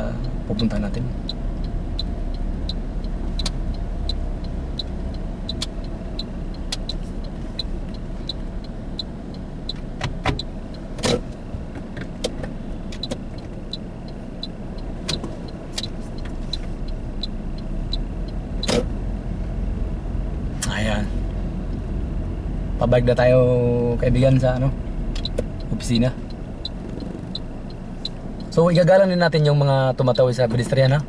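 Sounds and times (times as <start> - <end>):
car driving hum: 0.0 - 31.0
turn signal ticking: 0.0 - 31.0.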